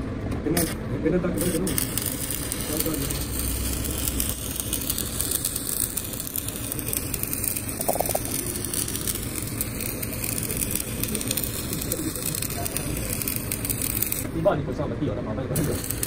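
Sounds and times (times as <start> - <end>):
welding arc crackling and hissing: 0.5 - 14.6, 15.5 - 16.0.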